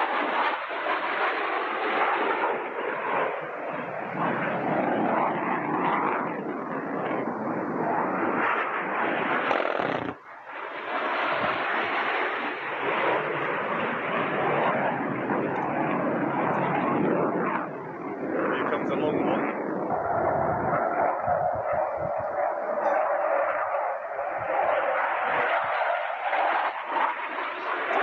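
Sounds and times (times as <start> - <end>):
jet roaring overhead: 0.0 - 28.0.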